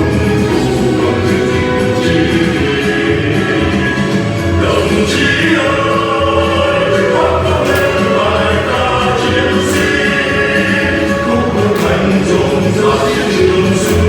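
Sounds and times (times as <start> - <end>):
choir singing a march: 0.0 - 14.0.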